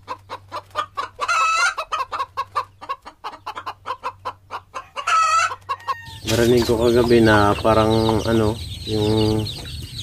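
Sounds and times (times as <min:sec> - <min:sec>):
chickens cackling: 0:00.0 - 0:10.0.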